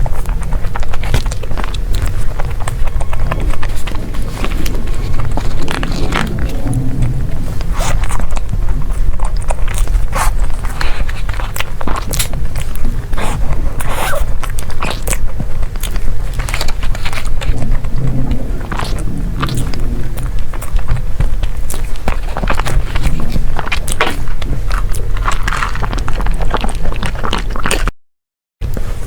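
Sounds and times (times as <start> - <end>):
steady low rumble: 0.0 - 27.1
biting and chewing desserts: 0.0 - 27.9.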